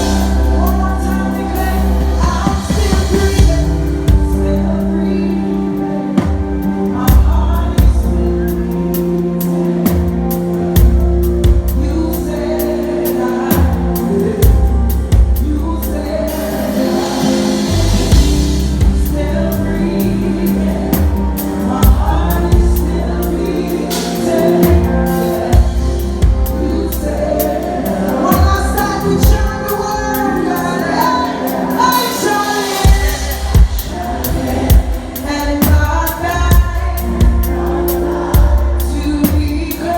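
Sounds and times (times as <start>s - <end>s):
band with bass and drums: 0.0s - 39.9s
gospel singing: 0.0s - 39.9s.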